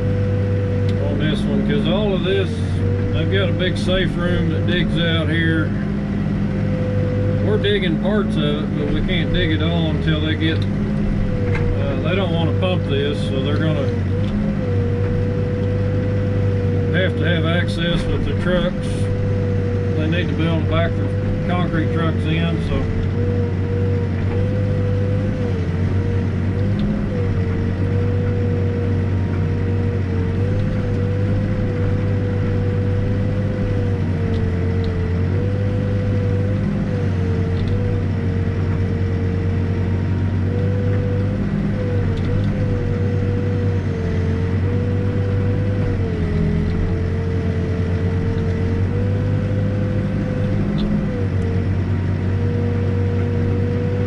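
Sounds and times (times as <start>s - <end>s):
diesel engine under load: 0.0s - 54.0s
hydraulic whine: 0.0s - 54.0s.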